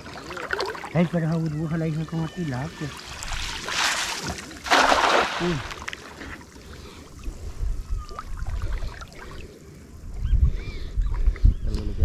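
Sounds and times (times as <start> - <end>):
water sloshing from wading: 0.0 - 10.3.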